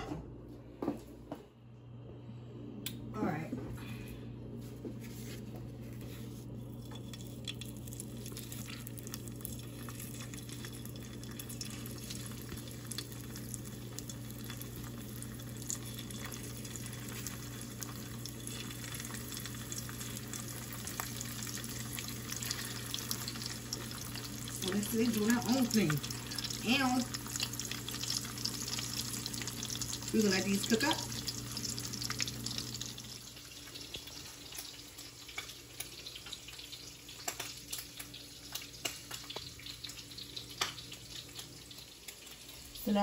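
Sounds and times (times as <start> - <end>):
sausages sizzling in grease: 7.1 - 43.0.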